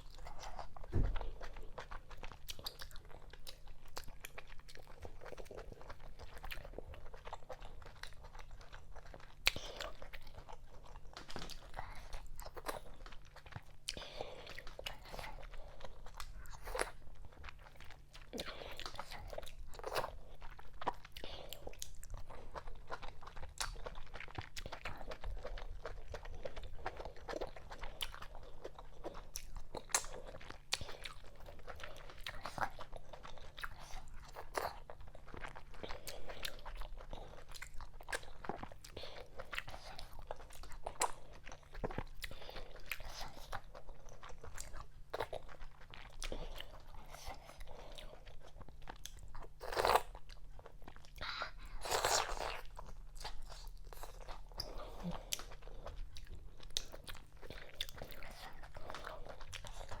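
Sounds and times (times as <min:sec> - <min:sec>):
chewing and mouth sounds: 0:00.0 - 1:00.0.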